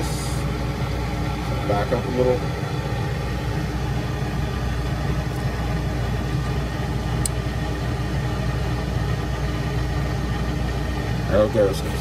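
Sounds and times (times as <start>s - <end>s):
machine shop equipment hum: 0.0s - 12.0s.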